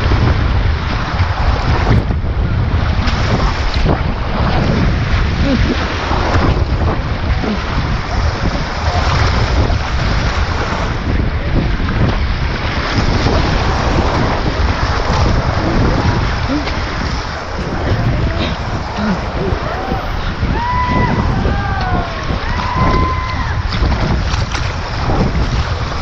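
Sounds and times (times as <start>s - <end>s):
whitewater rushing and splashing: 0.0s - 26.0s
wind buffeting microphone: 0.0s - 26.0s.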